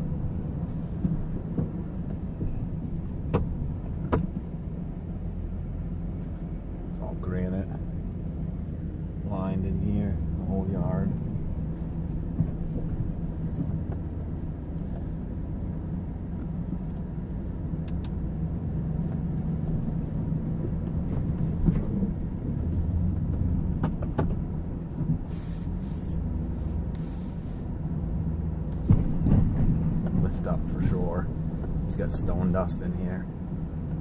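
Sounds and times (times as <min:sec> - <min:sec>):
truck engine low drone: 0:00.0 - 0:34.0.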